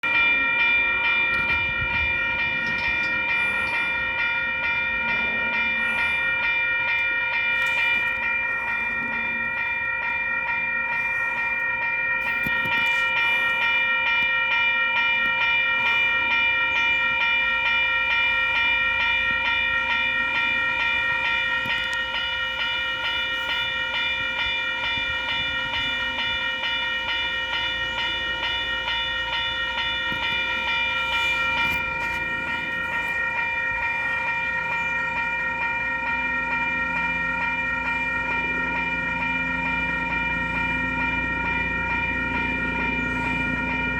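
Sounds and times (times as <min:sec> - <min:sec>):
level crossing bells ringing: 0:00.0 - 0:43.9
train rumbling: 0:00.0 - 0:43.9.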